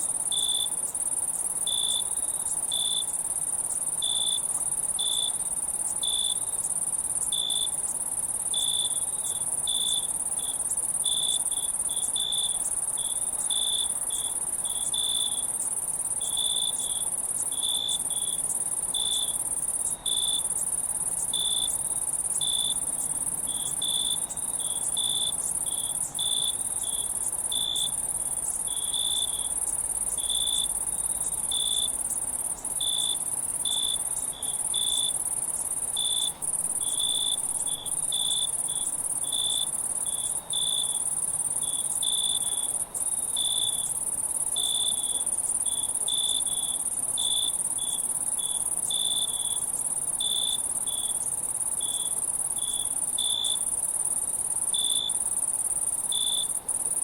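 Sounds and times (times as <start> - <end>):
insect chirps: 0.0 - 57.0
insects buzzing: 0.0 - 57.0.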